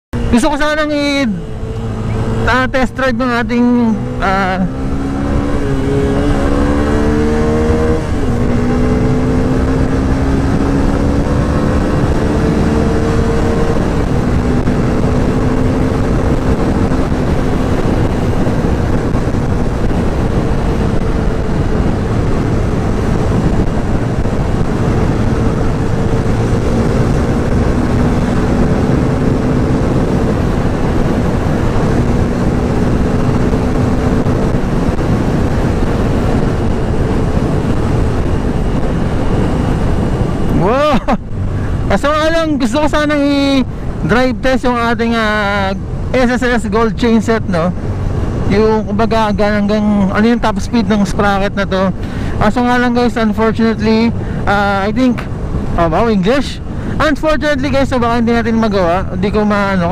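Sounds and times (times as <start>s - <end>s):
wind noise on microphone: 0.1s - 59.9s
motorcycle engine accelerating: 0.2s - 59.9s.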